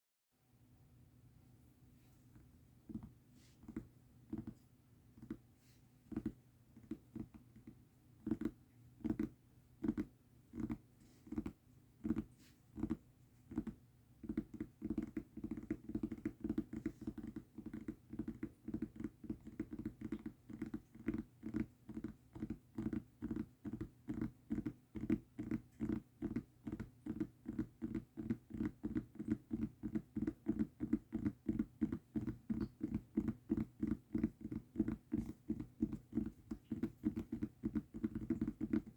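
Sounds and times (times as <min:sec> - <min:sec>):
tapping on a mousepad: 0:02.9 - 0:04.6, 0:05.2 - 0:05.4, 0:06.1 - 0:38.9.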